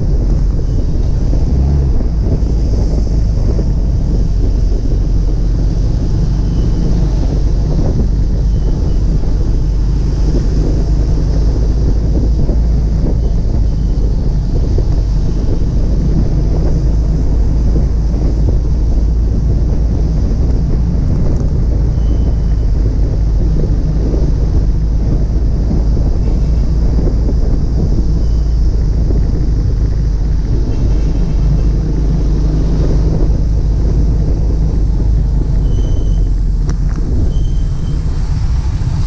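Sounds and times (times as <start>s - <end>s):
vehicles driving rumble: 0.0s - 39.0s
wind buffeting microphone: 0.0s - 39.0s.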